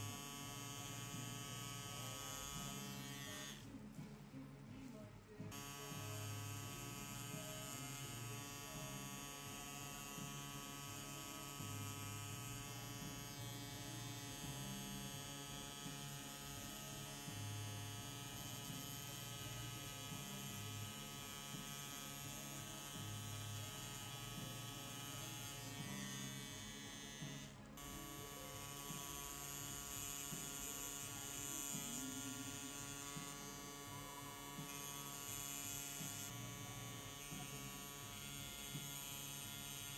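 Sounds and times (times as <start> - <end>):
tattoo machine buzzing: 0.0 - 3.6, 5.5 - 39.9.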